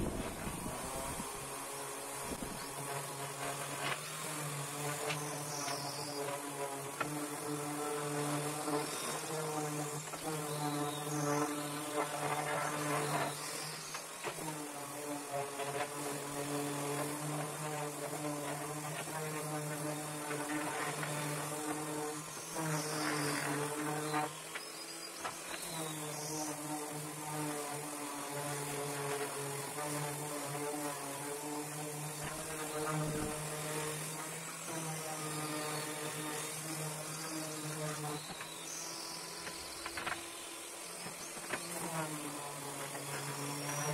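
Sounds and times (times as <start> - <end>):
electric sander running: 0.0 - 43.9.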